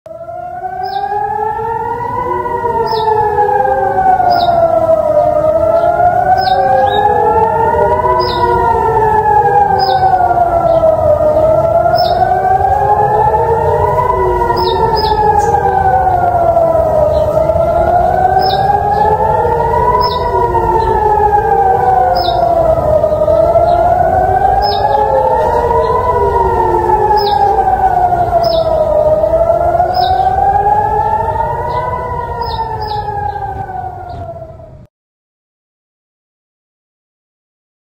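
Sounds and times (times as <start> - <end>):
air-raid sirens wailing: 0.0 - 34.9.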